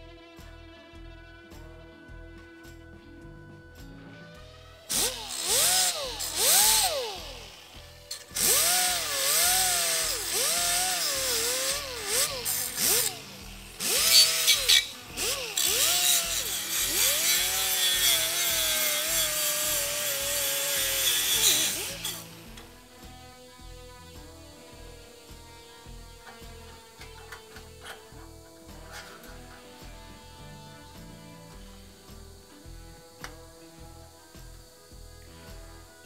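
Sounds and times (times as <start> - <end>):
pneumatic die grinder whining: 4.5 - 35.0
abrasive disc hissing on metal: 4.9 - 36.0.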